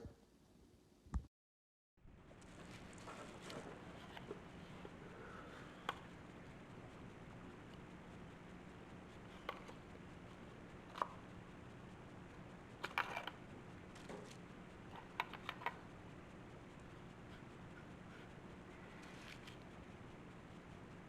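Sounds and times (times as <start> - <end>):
faint steady hum: 2.0 - 21.0.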